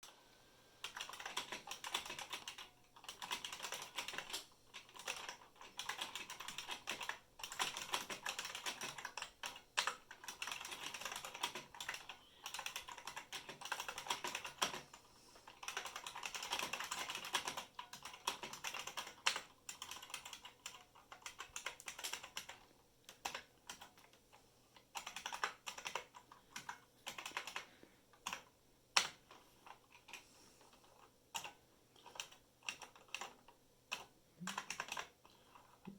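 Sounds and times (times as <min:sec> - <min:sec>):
mechanical keyboard typing: 0:00.8 - 0:35.9.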